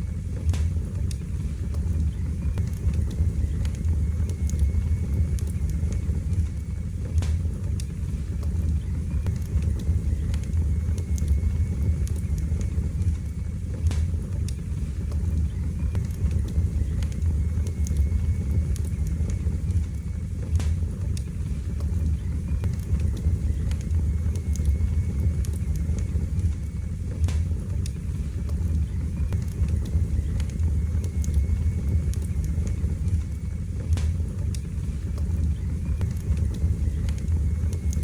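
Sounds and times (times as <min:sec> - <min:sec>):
fire crackles and pops: 0:00.0 - 0:38.0
fire low rumble: 0:00.0 - 0:38.0.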